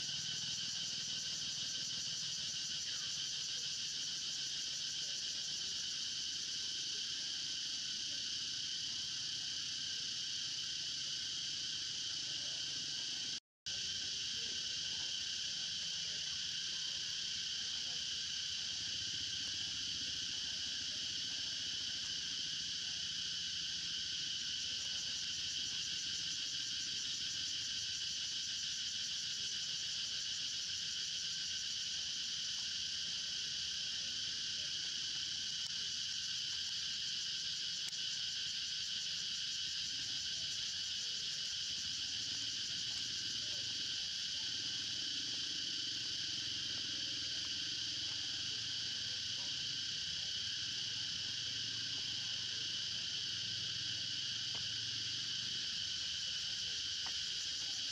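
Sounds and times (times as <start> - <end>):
insect chorus buzzing: 0.0 - 57.9.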